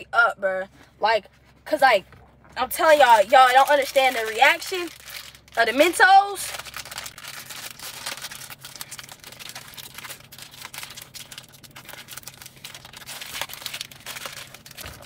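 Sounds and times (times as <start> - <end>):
faint low hum: 0.0 - 15.0
plastic packet crinkling: 2.6 - 15.0.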